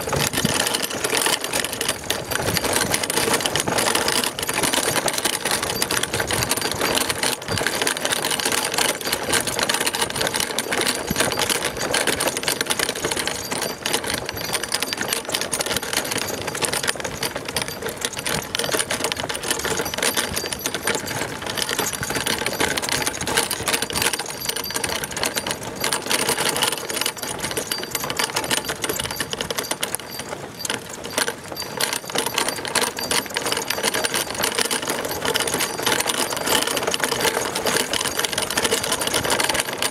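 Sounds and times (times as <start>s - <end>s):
cart rattling on dirt trail: 0.0s - 39.9s.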